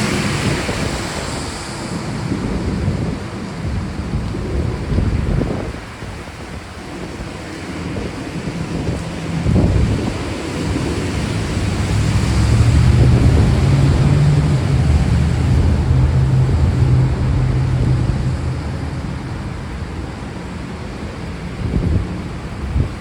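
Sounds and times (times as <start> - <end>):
heavy rain hiss: 0.0 - 23.0
rolling thunder rumble: 0.0 - 23.0.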